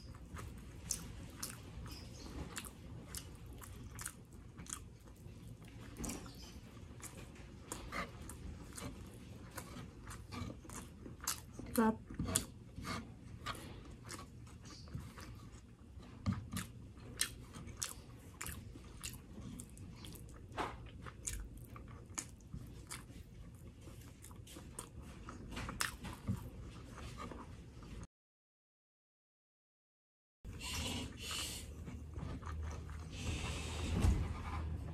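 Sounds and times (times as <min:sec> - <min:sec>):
person chewing food: 0:00.0 - 0:28.1, 0:30.5 - 0:33.7.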